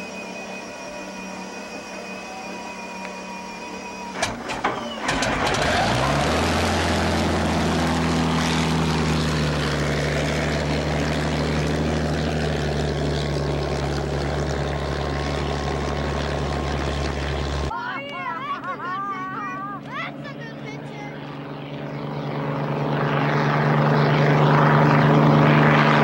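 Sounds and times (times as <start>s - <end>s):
boat engine revving: 0.0s - 26.0s.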